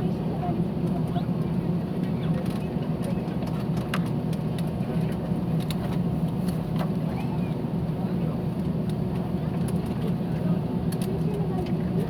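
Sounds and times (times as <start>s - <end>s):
airliner cabin engine hum: 0.0s - 12.0s.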